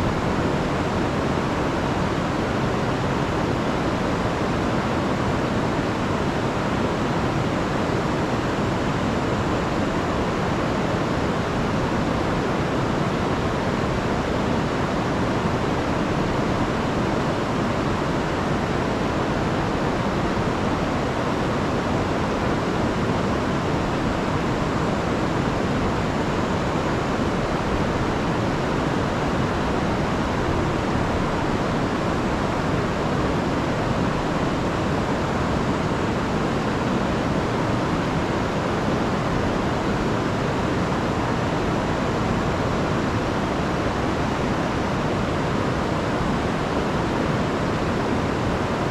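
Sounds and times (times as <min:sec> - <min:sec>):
river rushing over falls: 0:00.0 - 0:48.9.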